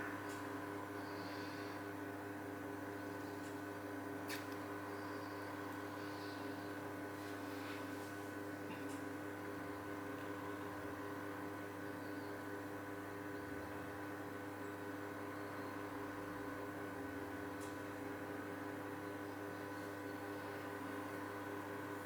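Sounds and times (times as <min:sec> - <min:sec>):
steady hum of held tones: 0:00.0 - 0:22.0.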